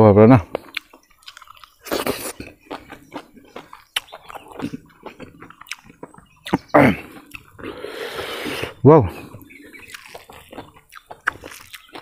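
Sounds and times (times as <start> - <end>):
chewing with lip smacks: 0.5 - 12.0.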